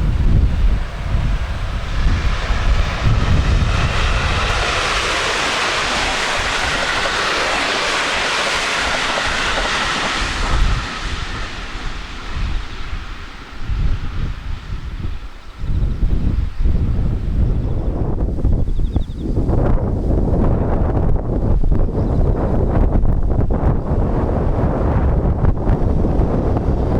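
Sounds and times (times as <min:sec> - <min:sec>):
train passing with smooth rush: 0:00.0 - 0:26.9
wind buffeting microphone: 0:00.0 - 0:26.9.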